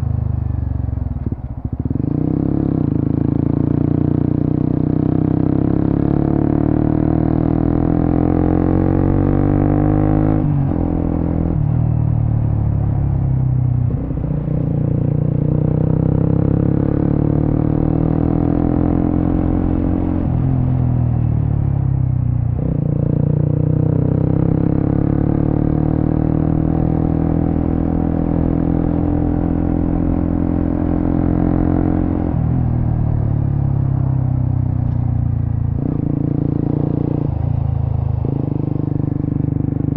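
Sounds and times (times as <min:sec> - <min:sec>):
motorcycle engine revving: 0:01.2 - 0:13.1, 0:13.8 - 0:21.8, 0:22.6 - 0:39.9.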